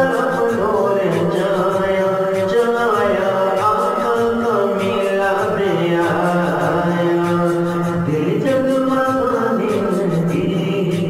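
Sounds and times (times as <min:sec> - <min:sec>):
voices singing devotional music: 0:00.0 - 0:11.0.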